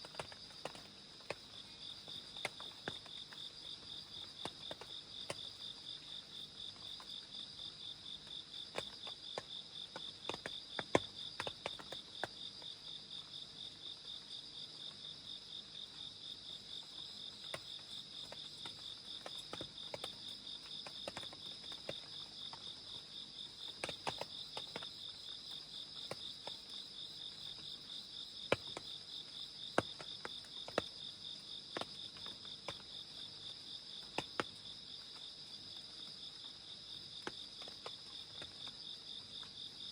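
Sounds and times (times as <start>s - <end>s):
rain drips ticking: 0.0s - 15.5s, 16.1s - 39.9s
crickets and insects chirping: 0.0s - 39.9s.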